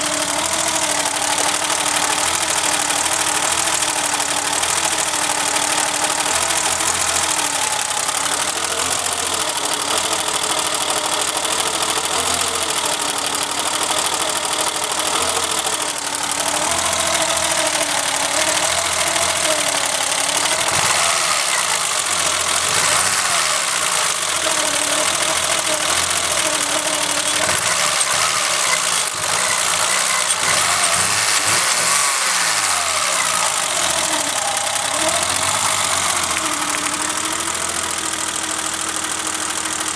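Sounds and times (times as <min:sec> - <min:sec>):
car engine misfiring: 0:00.0 - 0:39.9.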